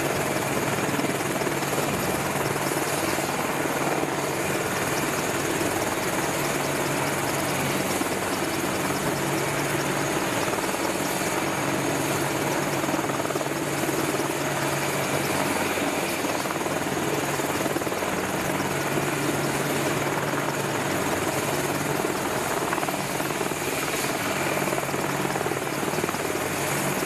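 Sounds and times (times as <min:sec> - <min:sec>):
helicopter rotor noise: 0:00.0 - 0:27.0.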